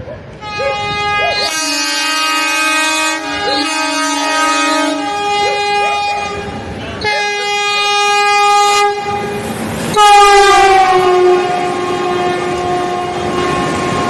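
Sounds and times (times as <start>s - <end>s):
moving train noise: 0.0s - 14.0s
locomotive horn blasts: 0.4s - 14.0s.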